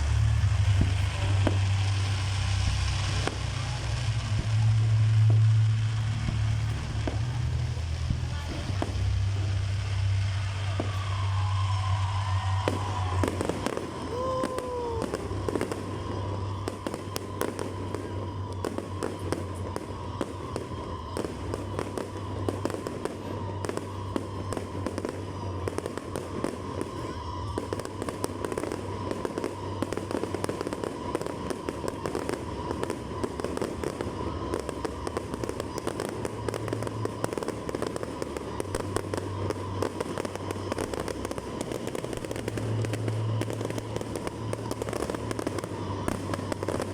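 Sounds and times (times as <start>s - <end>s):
firework whistles: 0.0s - 46.9s
fireworks crackling and popping: 0.0s - 46.9s.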